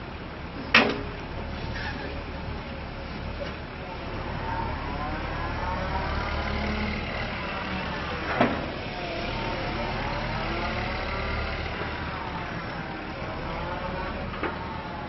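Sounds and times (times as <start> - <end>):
excavator engine and hydraulics: 0.0 - 15.0.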